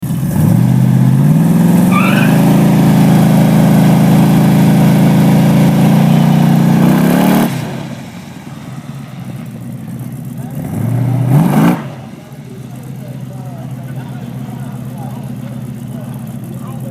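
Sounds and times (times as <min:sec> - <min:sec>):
car engine at full throttle: 0:00.0 - 0:16.9.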